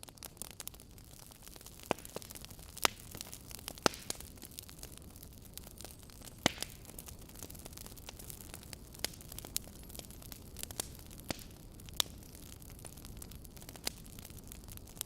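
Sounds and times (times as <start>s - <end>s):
fire hissing: 0.0s - 15.0s
wood crackling and popping: 0.0s - 15.0s.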